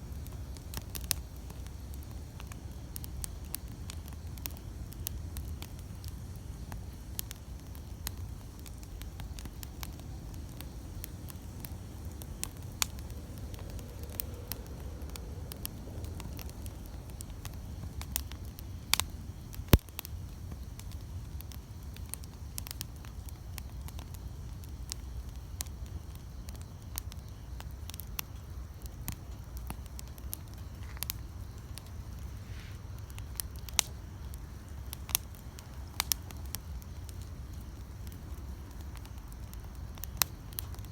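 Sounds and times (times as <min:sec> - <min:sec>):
campfire crackling and popping: 0:00.0 - 0:40.9
low rumble of fire: 0:00.0 - 0:40.9.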